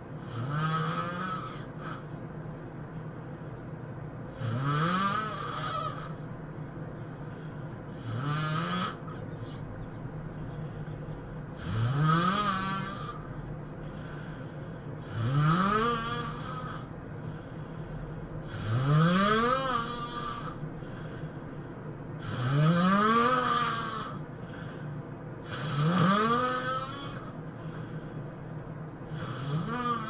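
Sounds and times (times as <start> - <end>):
person snoring: 0.0 - 2.2, 4.3 - 6.3, 7.1 - 9.7, 10.6 - 28.4, 29.0 - 30.0.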